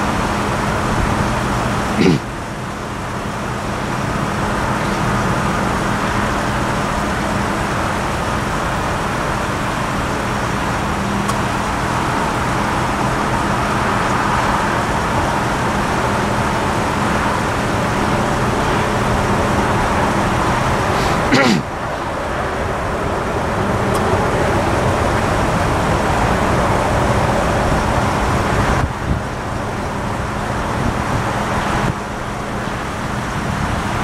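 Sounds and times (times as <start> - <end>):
low engine hum: 0.0 - 34.0
train rumbling past: 0.0 - 34.0.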